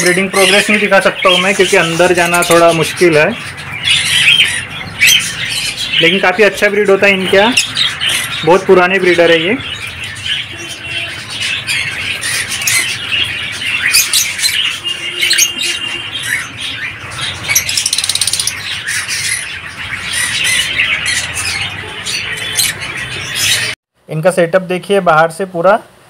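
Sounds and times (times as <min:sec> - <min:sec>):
lovebirds chirping and squawking: 0:00.0 - 0:23.8.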